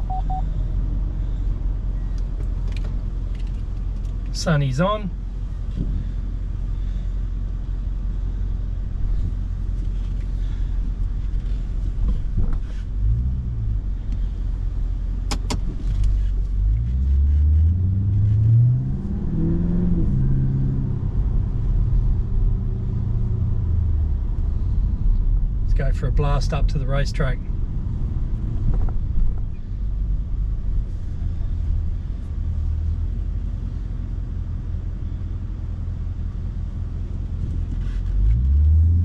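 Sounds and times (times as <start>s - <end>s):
car engine rumble from cabin: 0.0s - 39.0s.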